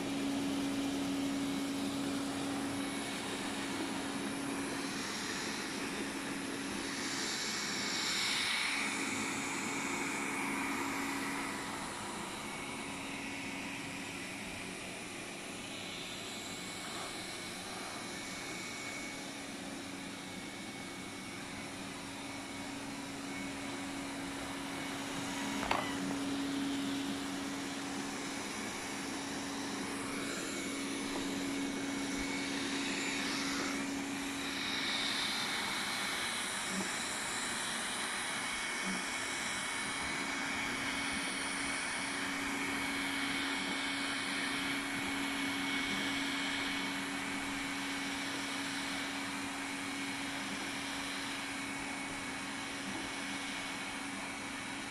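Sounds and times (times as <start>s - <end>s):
robot vacuum humming: 0.0s - 54.9s.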